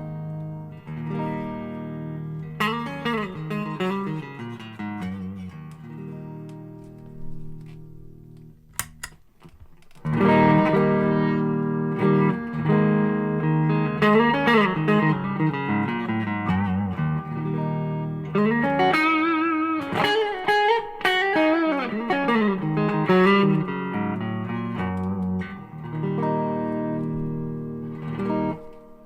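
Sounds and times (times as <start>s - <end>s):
overdriven electric guitar: 0.0s - 29.0s.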